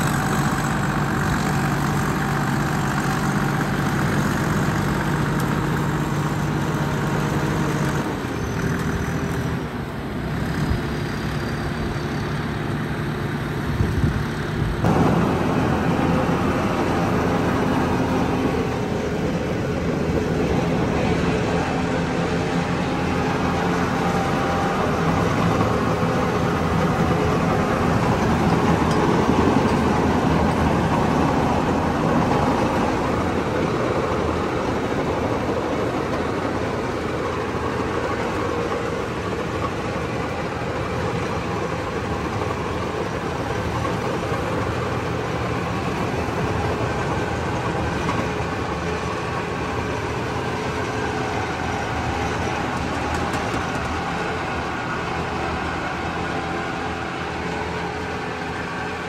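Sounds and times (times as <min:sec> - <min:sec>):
harvester engine running: 0:00.0 - 0:59.0.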